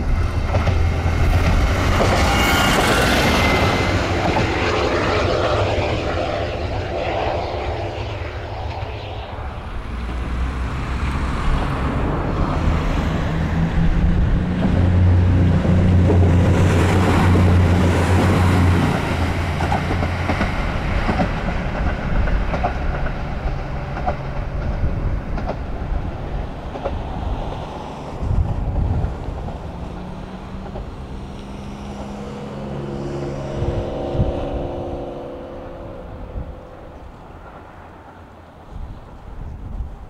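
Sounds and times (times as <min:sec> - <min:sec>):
diesel railcar engine hum: 0:00.0 - 0:40.0.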